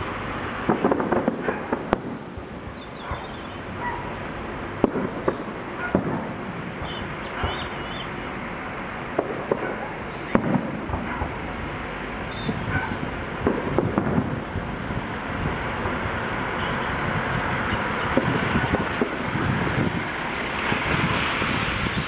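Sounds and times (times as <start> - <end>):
steady background rumble: 0.0 - 21.0
fireworks bangs and crackles: 0.0 - 22.0.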